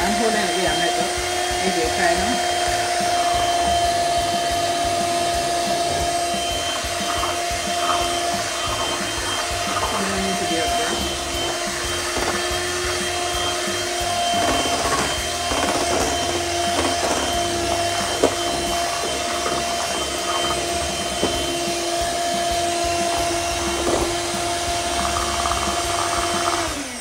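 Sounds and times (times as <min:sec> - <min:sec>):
electric mixer whine: 0:00.0 - 0:27.0.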